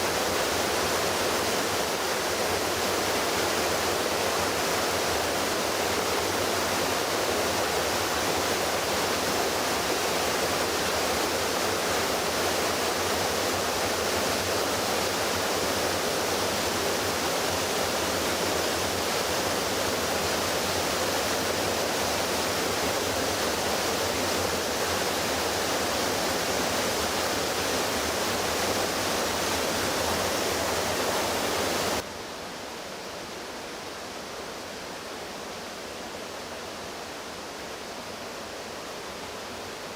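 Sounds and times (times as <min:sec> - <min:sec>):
floodwater rushing: 0:00.0 - 0:32.1.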